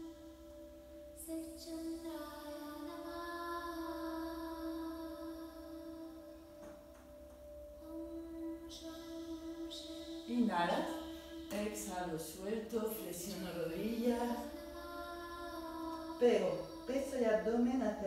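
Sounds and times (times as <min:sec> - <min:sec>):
chant-like sung notes: 0:00.0 - 0:18.0.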